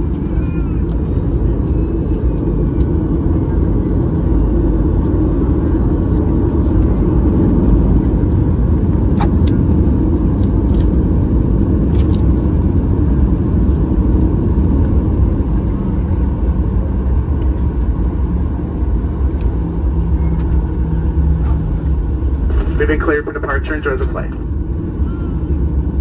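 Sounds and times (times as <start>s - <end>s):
aircraft engines low rumble: 0.0s - 26.0s.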